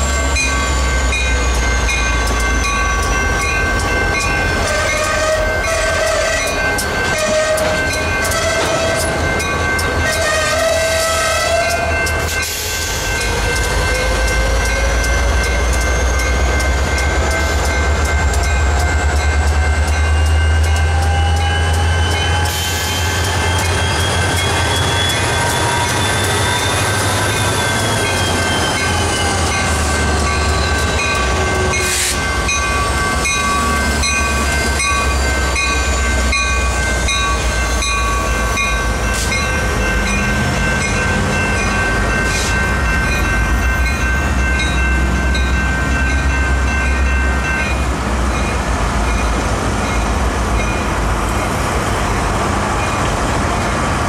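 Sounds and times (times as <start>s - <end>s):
train wheels squealing: 0.0s - 47.6s
crossing bell ringing: 0.0s - 53.2s
diesel locomotive rumble: 0.0s - 54.0s
train cars clanking: 0.0s - 54.0s.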